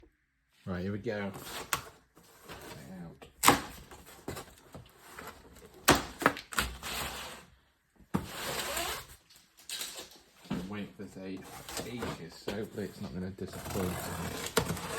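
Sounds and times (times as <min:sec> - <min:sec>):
cardboard rustling and scraping: 0:01.1 - 0:09.2, 0:10.0 - 0:14.9.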